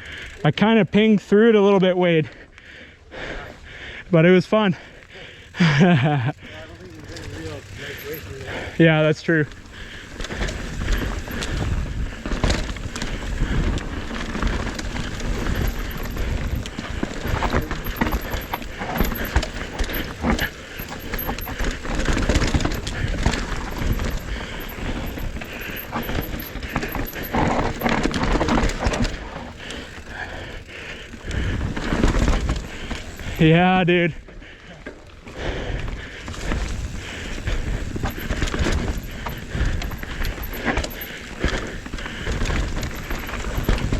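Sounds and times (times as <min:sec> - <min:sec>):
bike chain and frame rattling: 0:00.0 - 0:01.1, 0:04.7 - 0:43.9
bike tyres on dirt and rocks: 0:00.0 - 0:43.9.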